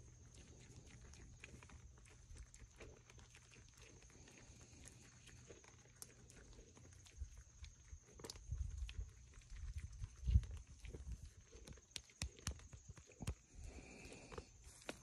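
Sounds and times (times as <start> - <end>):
deer chewing corn: 0.0 - 15.0.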